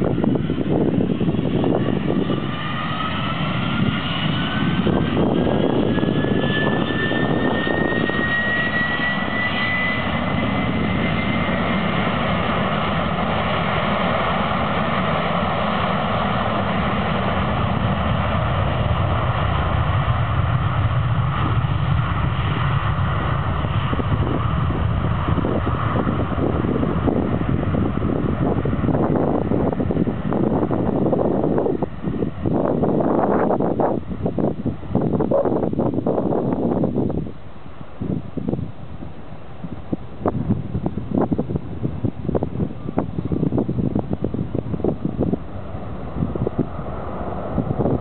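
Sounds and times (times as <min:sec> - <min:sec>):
jet engine roar: 0:00.0 - 0:48.0
jet engine whine: 0:00.0 - 0:48.0.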